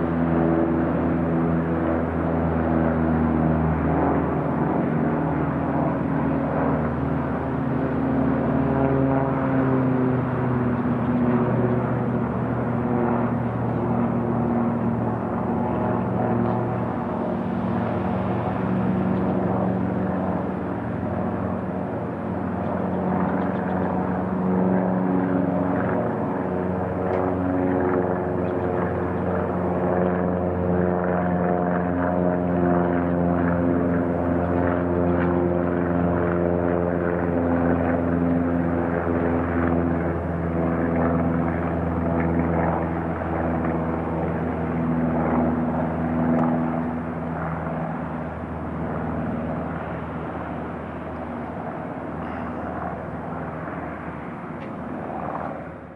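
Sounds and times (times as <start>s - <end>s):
propeller plane engine drone: 0.0s - 55.9s.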